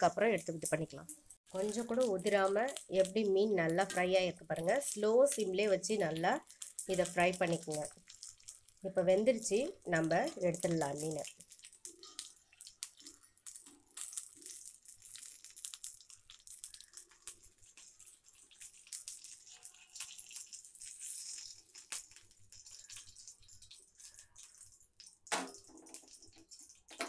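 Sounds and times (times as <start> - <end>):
oil sizzling around frying fish: 0.0 - 27.0.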